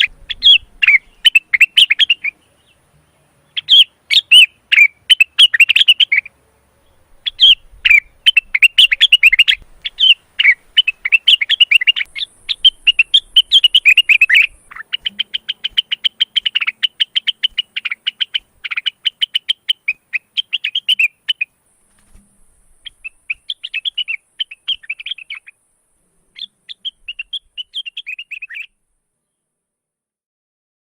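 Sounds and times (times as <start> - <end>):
bird singing chattering phrases: 0.0 - 21.5, 22.8 - 25.5, 26.3 - 28.7.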